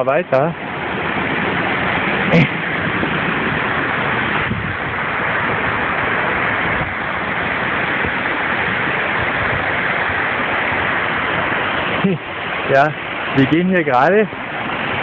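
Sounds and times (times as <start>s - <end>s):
water rushing down small waterfalls: 0.0s - 15.0s.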